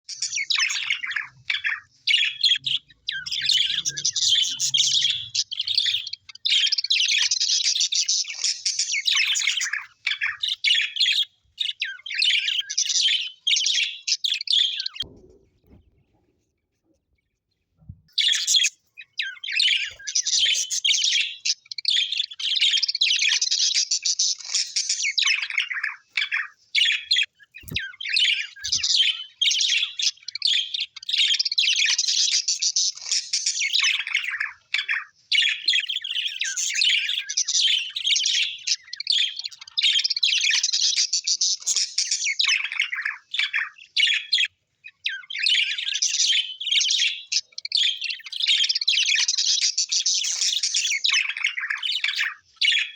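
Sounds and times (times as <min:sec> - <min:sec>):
birds chirping and chattering: 0:00.0 - 0:52.9.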